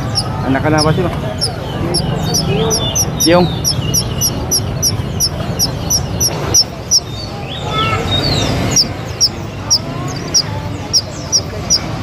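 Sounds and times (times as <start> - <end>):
bird chirping fast high notes: 0.0 - 12.0
low murmur of a crowd: 0.0 - 12.0
other bird calls: 0.0 - 12.0.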